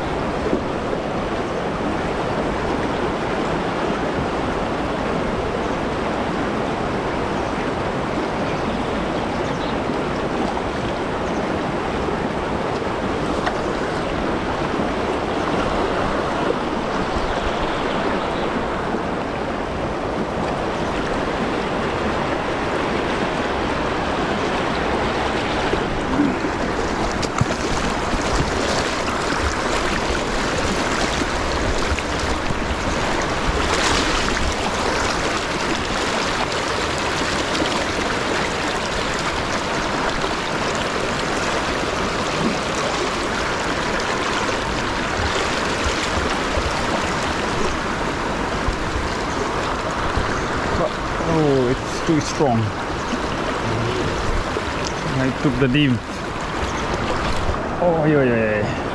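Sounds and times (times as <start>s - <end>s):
water rushing over rocks: 0.0s - 58.9s.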